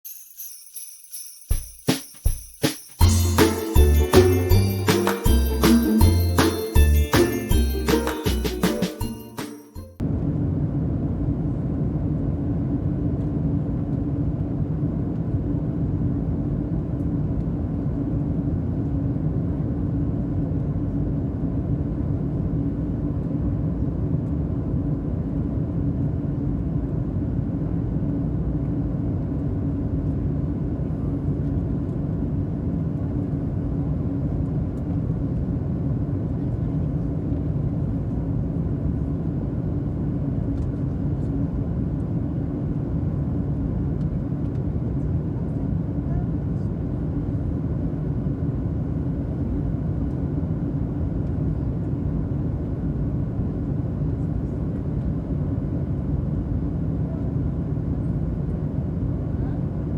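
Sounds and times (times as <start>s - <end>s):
airliner cabin engine drone: 10.0s - 59.9s
constant low hum: 10.0s - 59.9s.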